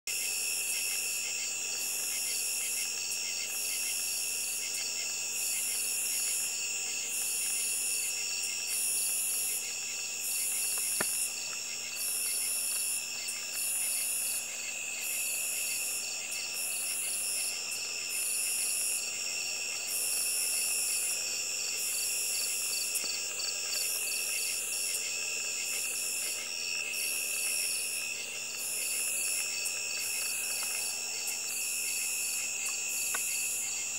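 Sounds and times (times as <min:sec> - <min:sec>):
insects trilling: 0:00.1 - 0:33.9
pulsing high insect call: 0:00.1 - 0:33.9.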